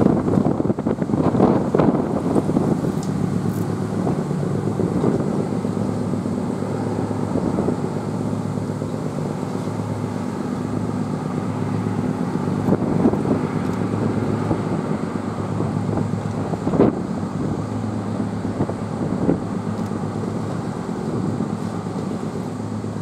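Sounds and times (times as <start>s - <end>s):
ship machinery drone: 0.0s - 23.0s.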